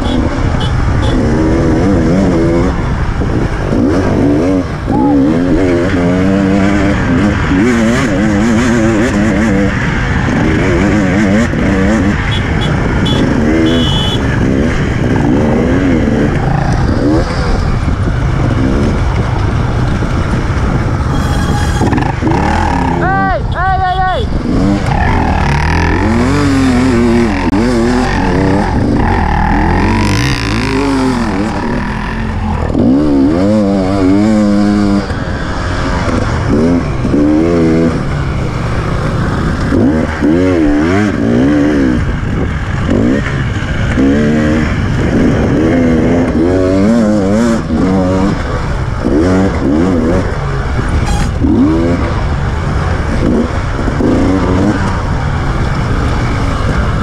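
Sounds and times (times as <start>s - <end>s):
two-stroke motorcycle engine revving: 0.0s - 23.2s, 24.3s - 57.0s.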